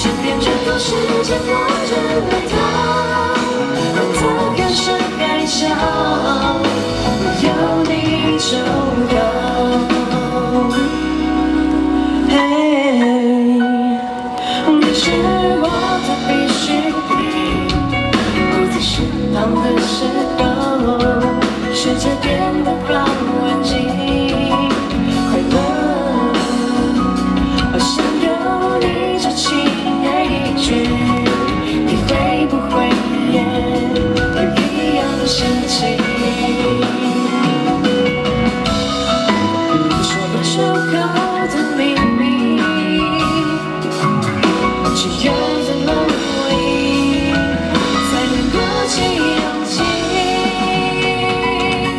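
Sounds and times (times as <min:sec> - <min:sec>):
band playing pop song: 0:00.0 - 0:51.9
woman singing: 0:00.0 - 0:51.9.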